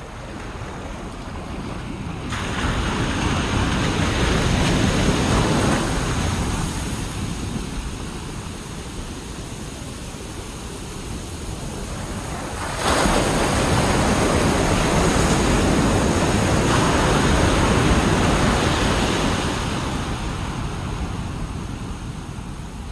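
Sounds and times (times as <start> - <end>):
ocean waves on beach: 0.0 - 22.9
wind rumble on microphone: 0.0 - 22.9.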